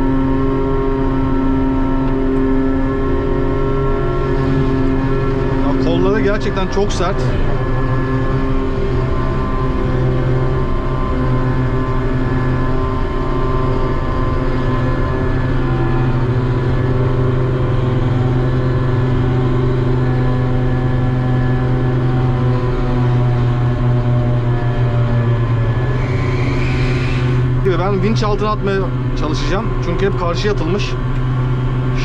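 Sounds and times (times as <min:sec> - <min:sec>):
crane power unit humming: 0:00.0 - 0:32.0.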